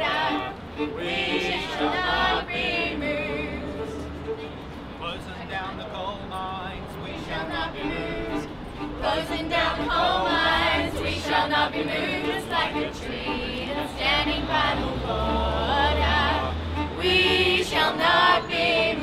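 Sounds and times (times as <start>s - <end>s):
group singing in unison: 0.0s - 4.2s, 7.1s - 19.0s
bowed violin: 0.0s - 4.7s, 7.0s - 19.0s.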